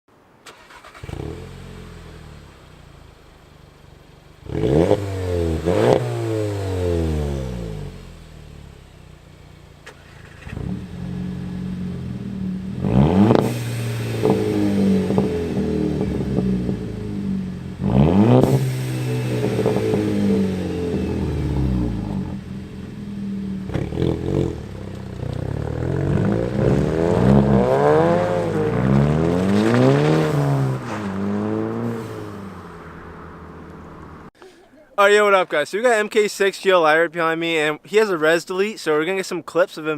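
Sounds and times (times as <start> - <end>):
car engine revving: 0.5 - 34.4.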